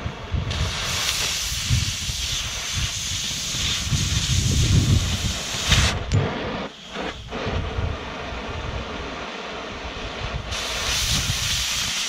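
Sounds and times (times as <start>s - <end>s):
cutting torch hissing: 0.2s - 12.0s.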